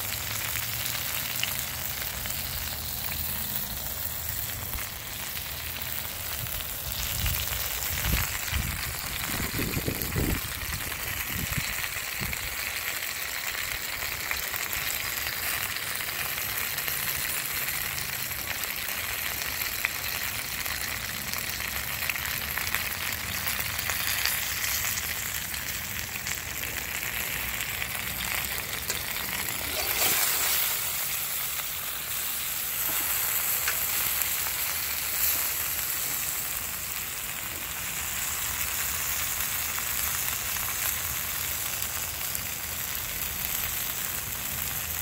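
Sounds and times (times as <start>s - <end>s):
chicken sizzling in a pan: 0.0s - 45.0s.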